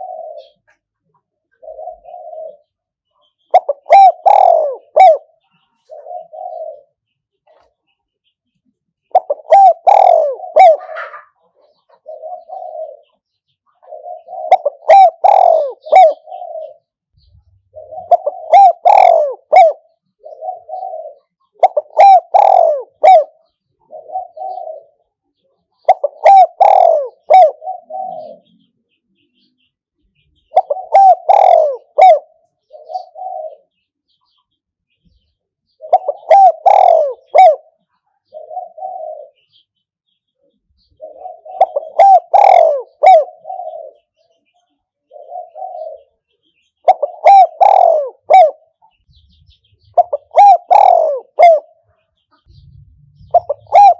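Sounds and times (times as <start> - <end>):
dove cooing: 0.0 - 7.8, 9.1 - 28.8, 30.1 - 34.4, 35.1 - 39.8, 40.4 - 53.9.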